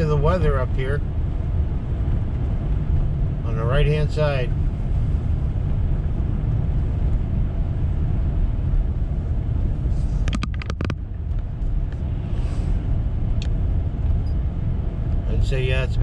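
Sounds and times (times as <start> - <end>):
vehicle rumbling on slushy road: 0.0 - 16.0.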